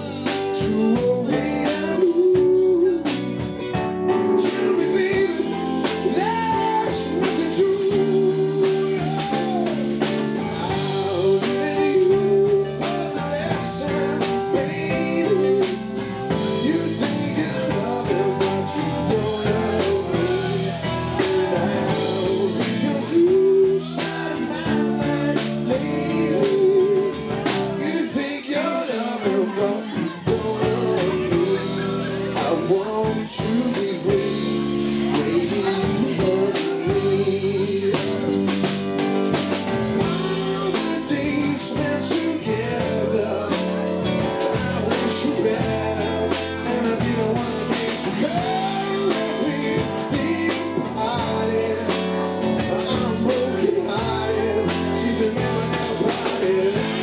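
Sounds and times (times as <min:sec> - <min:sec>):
drum kit: 0:00.0 - 0:28.4, 0:29.4 - 0:57.0
electric guitars: 0:00.0 - 0:57.0
live pop-rock band: 0:00.0 - 0:57.0
person singing: 0:00.0 - 0:57.0.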